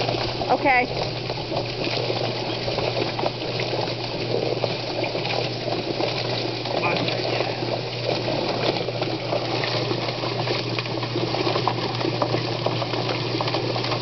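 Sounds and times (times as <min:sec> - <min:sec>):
motor hum: 0:00.0 - 0:14.0
water running into drum: 0:00.0 - 0:14.0
wet clattering and slapping: 0:00.0 - 0:14.0.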